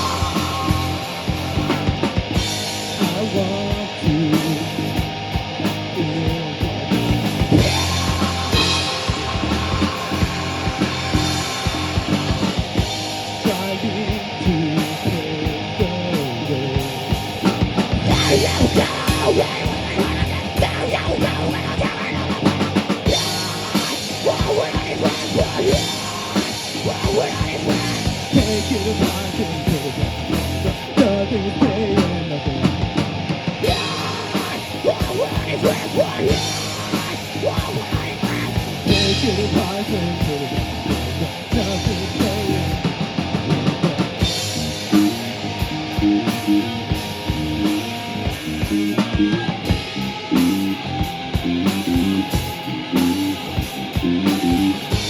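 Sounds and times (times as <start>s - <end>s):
bass guitar: 0.0s - 55.0s
electric guitar: 0.0s - 55.0s
live rock band playing: 0.0s - 55.0s.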